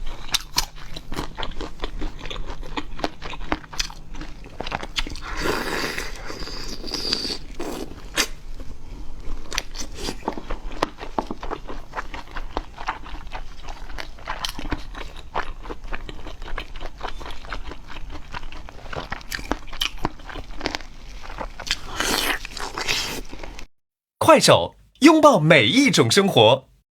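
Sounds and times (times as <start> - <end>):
crunchy chewing: 0.0 - 23.7.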